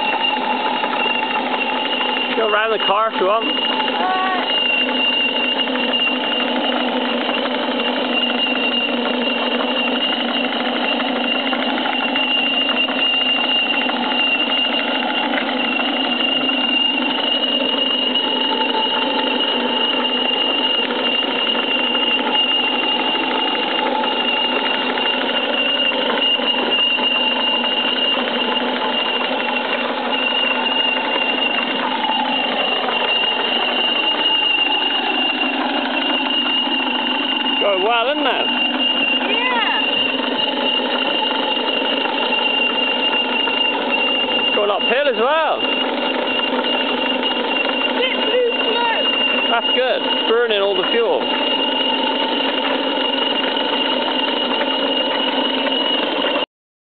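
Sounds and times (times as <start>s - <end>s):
model steam engine running: 0.0s - 56.4s.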